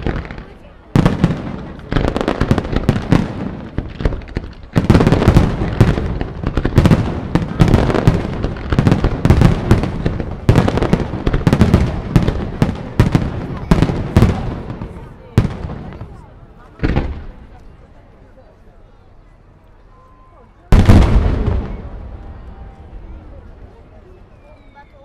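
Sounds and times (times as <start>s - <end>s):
fireworks bangs and crackling: 0.0s - 17.8s, 20.7s - 24.1s.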